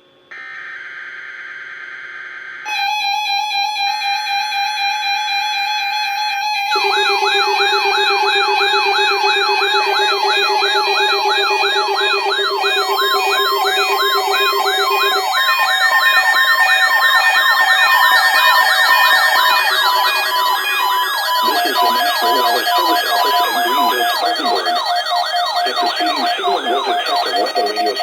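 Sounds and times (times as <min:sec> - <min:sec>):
layered synthetic siren tones: 0:02.7 - 0:28.0.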